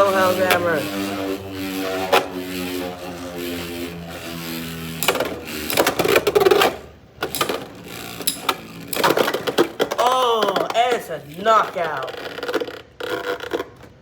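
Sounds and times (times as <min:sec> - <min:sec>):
spinning tops clacking together: 0:00.0 - 0:12.5
spinning tops whirring: 0:00.0 - 0:14.0.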